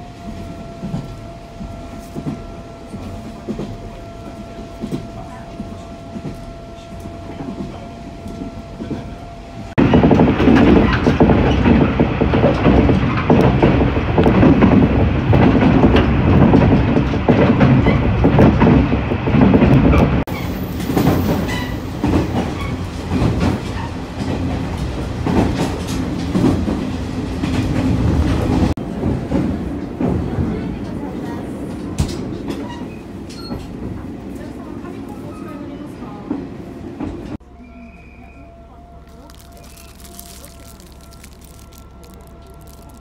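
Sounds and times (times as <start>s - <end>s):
railcar rumble: 0.0s - 43.0s.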